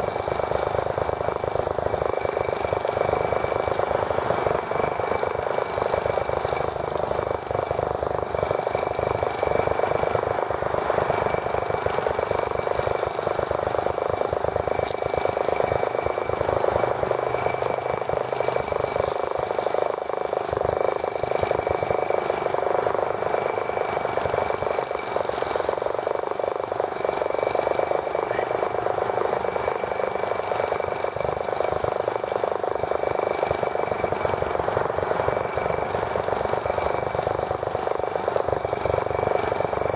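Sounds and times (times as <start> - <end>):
small model engine running: 0.0 - 39.9.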